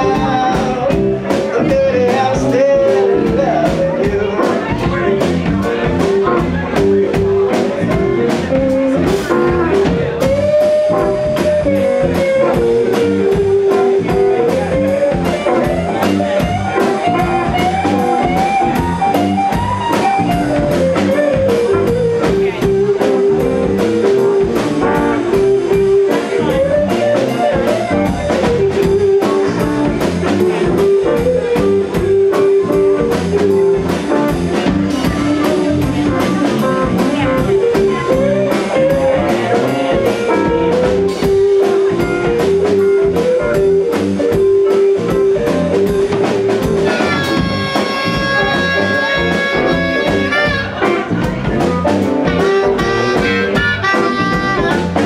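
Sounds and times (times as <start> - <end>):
blues band playing: 0.0 - 55.0
electric guitar bending notes: 0.0 - 55.0.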